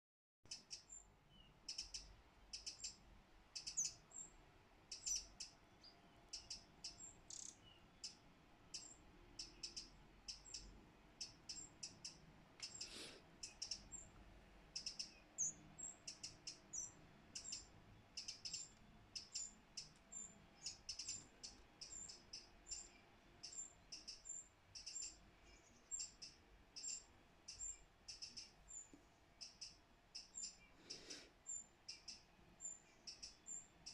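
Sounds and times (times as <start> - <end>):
young bird chirping: 0.5 - 4.3, 4.9 - 33.9.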